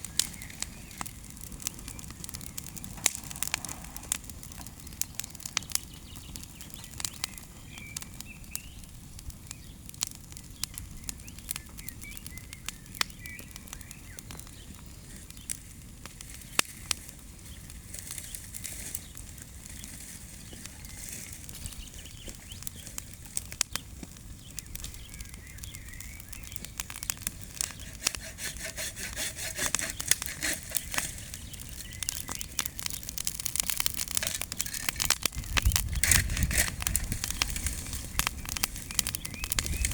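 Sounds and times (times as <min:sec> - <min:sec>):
bonfire crackling and popping: 0:00.0 - 0:39.9
small birds chirping faintly: 0:00.0 - 0:39.9.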